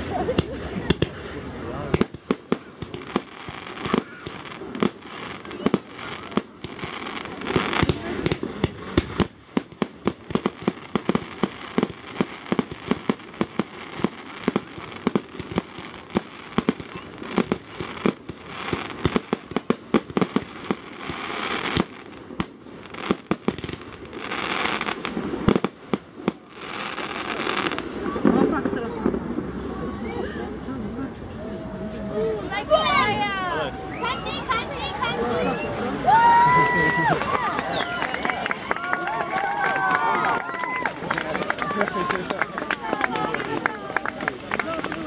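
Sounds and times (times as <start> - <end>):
firework crackle: 0.0 - 45.0.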